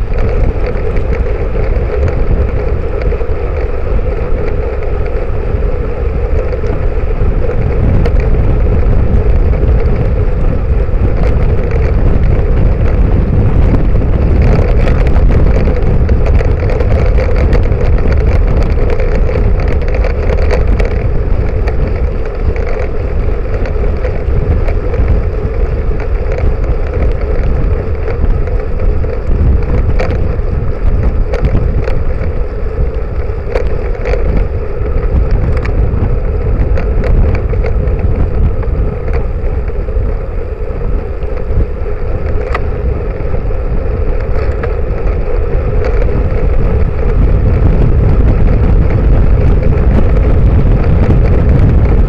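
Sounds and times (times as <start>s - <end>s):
bicycle road rumble: 0.0s - 52.0s
constant hum: 0.0s - 52.0s
small rattles and clicks: 0.0s - 52.0s
wind buffeting microphone: 0.0s - 52.0s.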